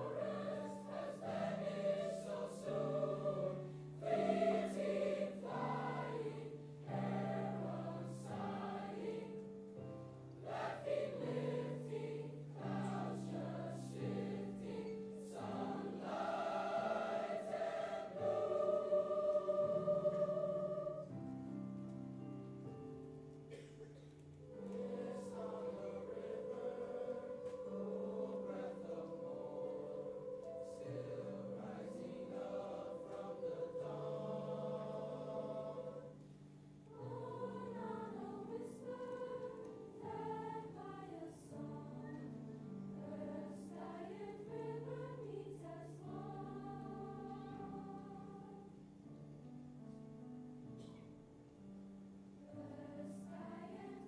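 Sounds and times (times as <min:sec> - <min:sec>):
mixed choir singing: 0:00.0 - 0:21.3, 0:24.5 - 0:48.8, 0:52.4 - 0:54.0.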